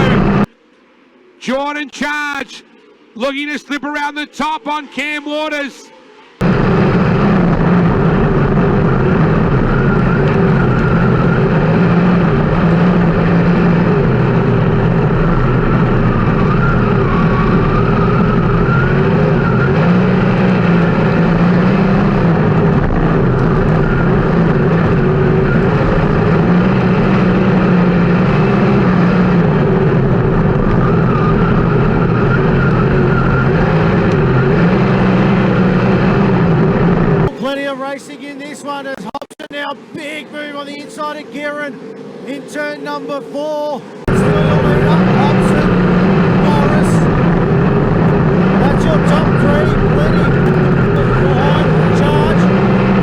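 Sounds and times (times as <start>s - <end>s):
racing car engines: 0.0s - 53.0s.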